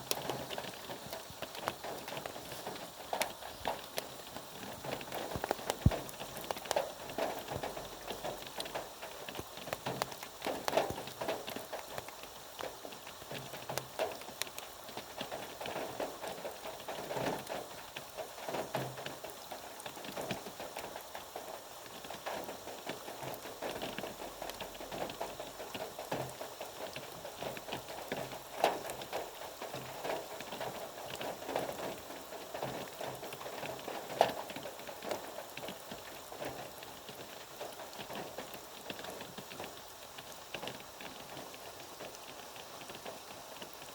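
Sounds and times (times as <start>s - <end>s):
rain pattering: 0.0s - 43.9s
raindrops tapping on a surface: 0.0s - 43.9s.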